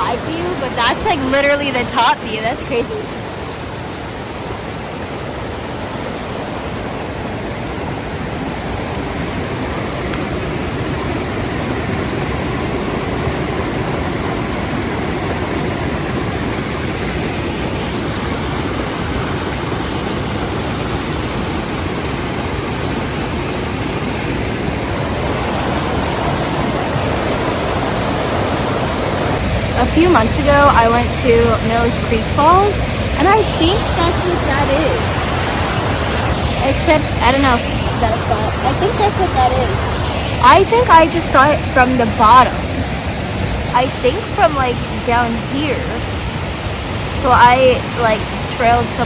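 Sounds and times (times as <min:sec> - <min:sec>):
water rushing over waterfall: 0:00.0 - 0:49.0.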